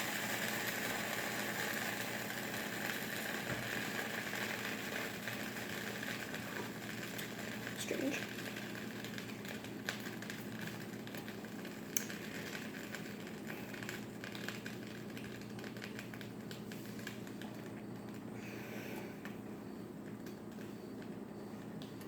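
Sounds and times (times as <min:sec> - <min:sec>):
butter popping: 0:00.0 - 0:18.3
sandwich sizzling in a pan: 0:00.0 - 0:22.0.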